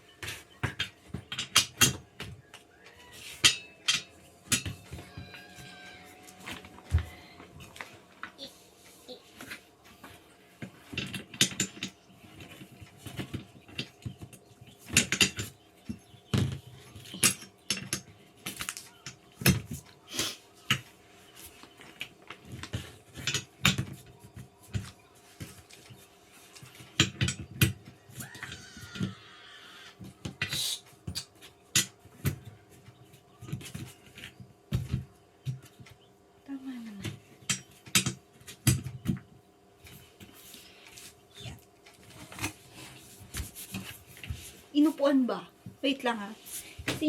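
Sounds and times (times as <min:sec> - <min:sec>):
chair parts knocking and rattling: 0:00.0 - 0:20.0, 0:20.6 - 0:29.2, 0:30.0 - 0:36.1, 0:36.9 - 0:41.1, 0:41.8 - 0:44.9, 0:46.5 - 0:47.0.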